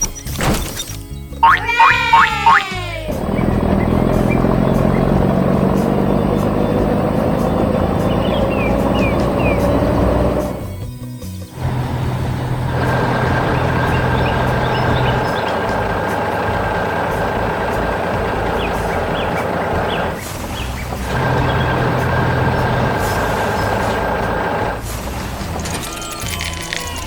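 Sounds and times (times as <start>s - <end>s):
heavy truck engine running: 1.0s - 27.0s.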